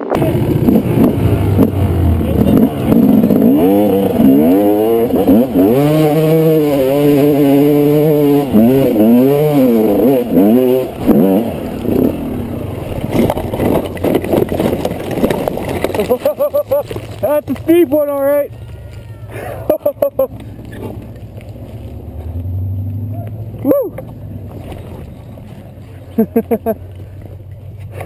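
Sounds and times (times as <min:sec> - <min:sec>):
dirt bike engine revving: 0:00.0 - 0:27.2.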